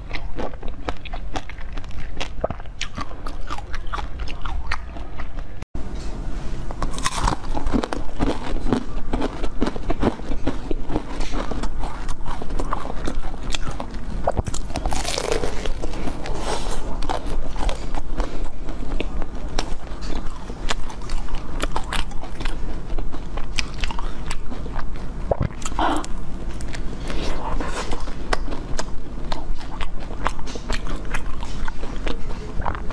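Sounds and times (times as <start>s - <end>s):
chewing: 0.0s - 5.6s, 6.7s - 32.9s.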